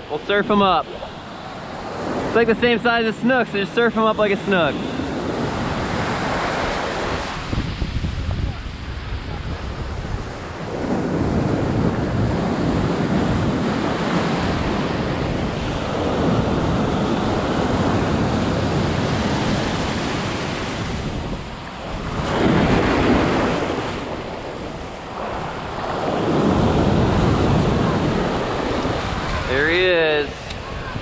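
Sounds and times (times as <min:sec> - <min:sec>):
surf breaking on beach: 0:00.0 - 0:31.0.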